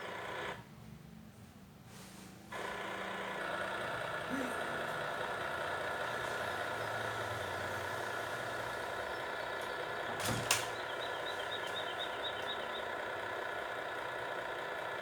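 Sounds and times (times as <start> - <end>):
large engine running: 0.0 - 0.6, 2.5 - 15.0.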